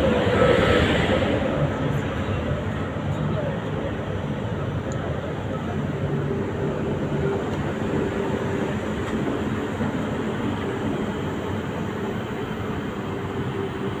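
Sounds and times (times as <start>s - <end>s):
constant rushing noise: 0.0s - 14.0s
train electrical hum: 0.0s - 14.0s.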